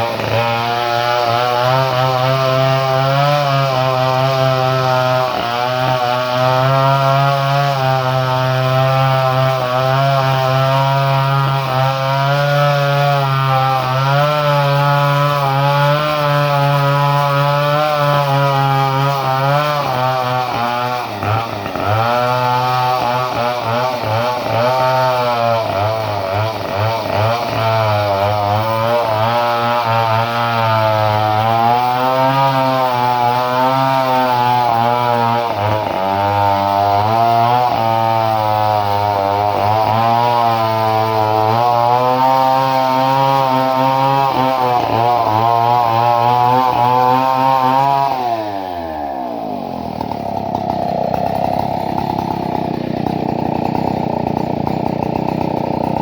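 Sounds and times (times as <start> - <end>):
chainsaw running at high revs: 0.0 - 56.0.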